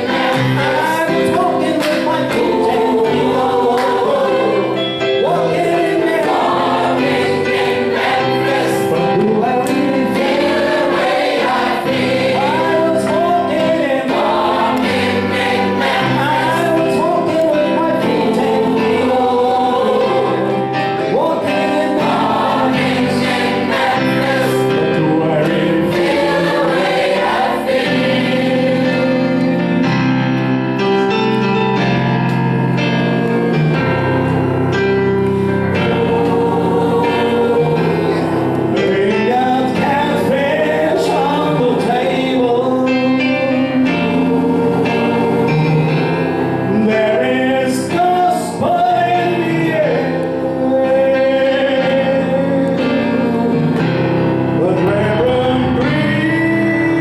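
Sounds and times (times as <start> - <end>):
choir singing gospel music: 0.0 - 57.0
instrumental accompaniment: 0.0 - 57.0.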